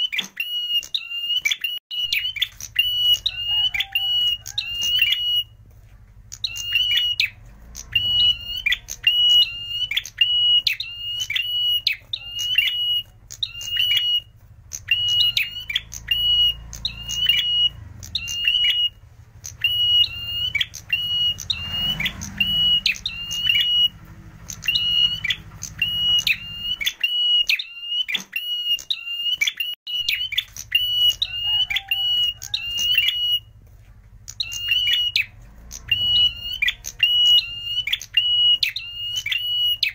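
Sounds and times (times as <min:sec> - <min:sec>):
bird shrill piercing chirps: 0:00.0 - 0:05.6, 0:06.3 - 0:33.6, 0:34.3 - 0:39.9.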